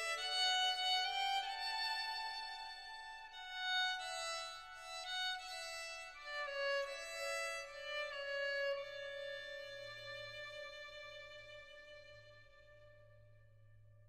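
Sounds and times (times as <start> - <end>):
violin melody: 0.0 - 12.6.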